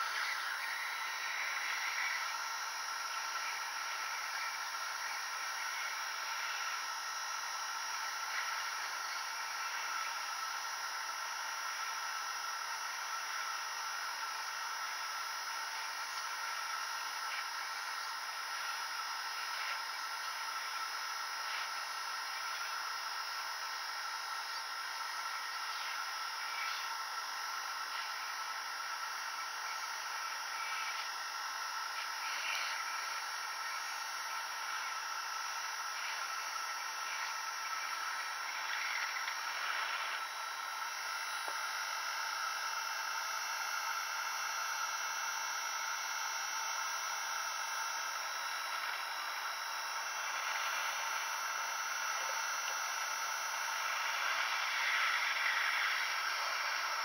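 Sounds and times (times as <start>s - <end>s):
hot air gun blowing: 0.0s - 57.0s.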